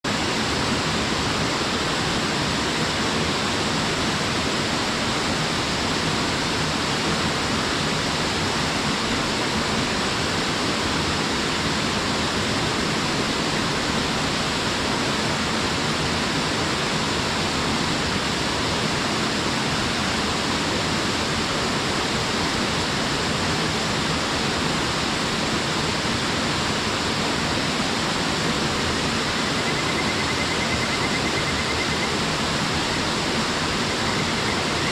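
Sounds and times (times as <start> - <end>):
small waterfall splashing: 0.0 - 34.9.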